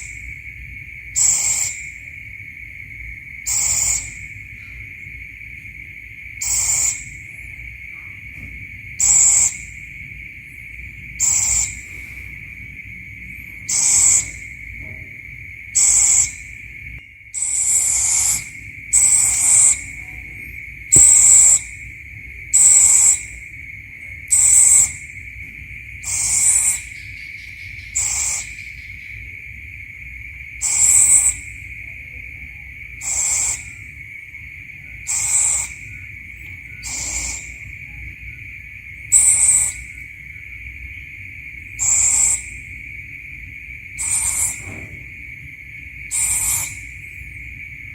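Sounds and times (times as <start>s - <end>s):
owl calling: 0.0s - 5.5s, 6.2s - 8.0s, 8.7s - 47.9s
high insect drone: 0.0s - 47.9s.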